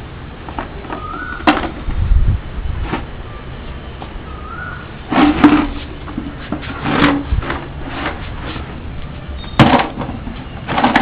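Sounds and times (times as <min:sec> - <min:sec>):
plastic tub scraping on concrete: 0:00.5 - 0:03.2, 0:04.5 - 0:11.0.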